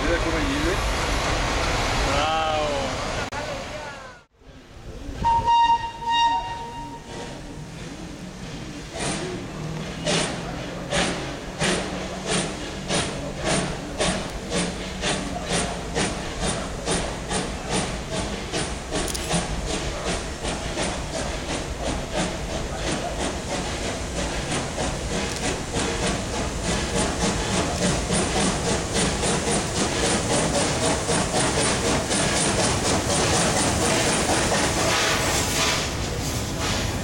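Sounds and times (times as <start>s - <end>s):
train wheels rumbling: 0.0s - 37.0s
steam locomotive exhaust chuffing: 5.2s - 37.0s.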